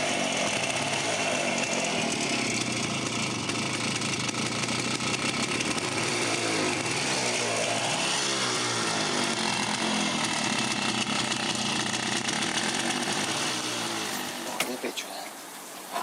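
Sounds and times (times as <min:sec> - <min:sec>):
two-stroke motorcycle engine buzzing: 0:00.0 - 0:14.8.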